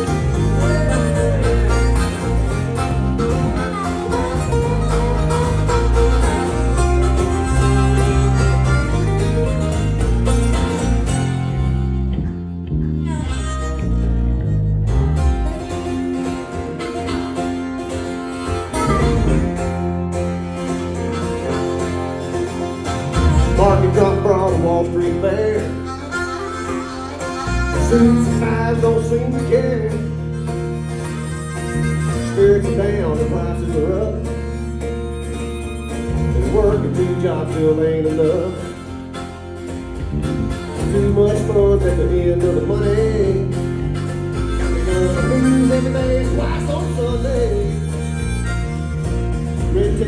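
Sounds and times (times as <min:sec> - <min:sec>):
electric bass line: 0:00.0 - 0:50.0
harmonica melody: 0:00.0 - 0:50.0
strummed acoustic guitars: 0:00.0 - 0:50.0.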